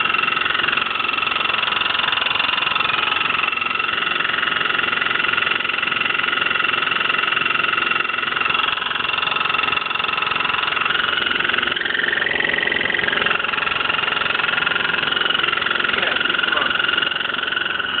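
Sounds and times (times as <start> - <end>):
washing machine whine: 0.0 - 18.0.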